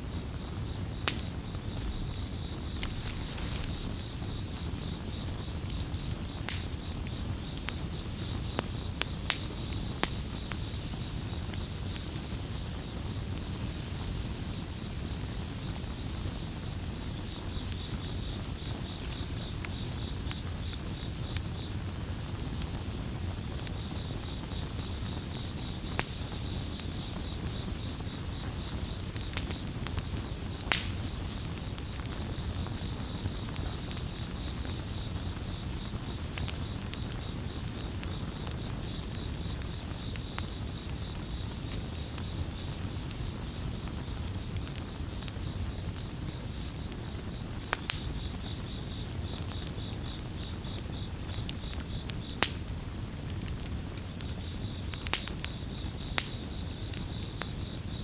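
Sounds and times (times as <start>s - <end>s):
crickets chirping: 0.0s - 58.0s
low rumble of flames: 0.0s - 58.0s
campfire crackling and popping: 0.1s - 58.0s.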